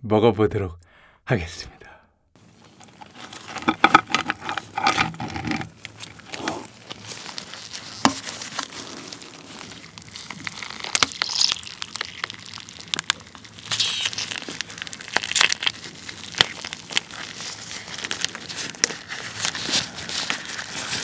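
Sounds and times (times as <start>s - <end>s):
crab shell squelching and crackling: 2.4s - 21.0s.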